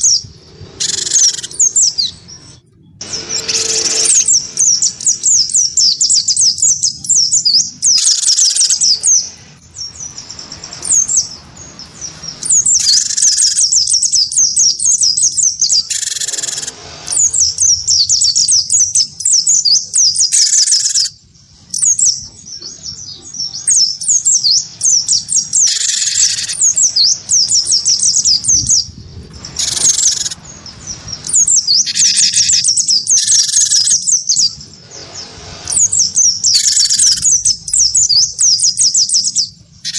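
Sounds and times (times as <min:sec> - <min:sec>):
fast high bird twittering: 0:00.0 - 0:39.9
harsh buzzy bird calls: 0:00.0 - 0:39.9.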